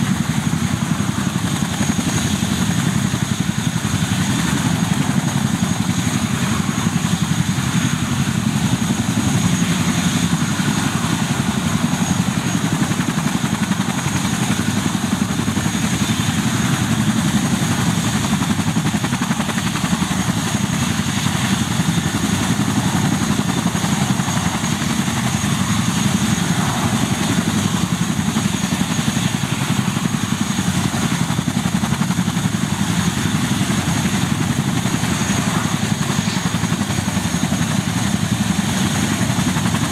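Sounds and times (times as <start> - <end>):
helicopter rotor beat: 0.0 - 39.9
high turbine whine: 0.0 - 39.9.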